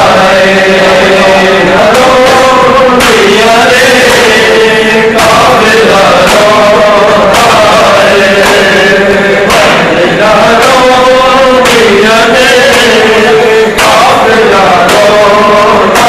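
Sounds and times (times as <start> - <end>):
chest-beating slaps: 0.0 - 16.0
men chanting in unison: 0.0 - 16.0.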